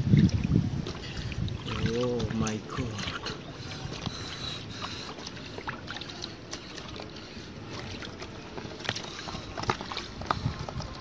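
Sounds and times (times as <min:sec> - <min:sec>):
small splashes and drips: 0:00.0 - 0:10.1
hands sloshing in muddy water: 0:00.0 - 0:11.0.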